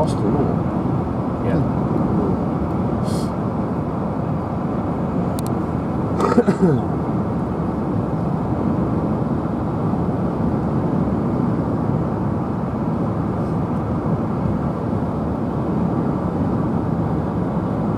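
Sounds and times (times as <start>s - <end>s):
road and tyre noise inside car: 0.0s - 17.9s.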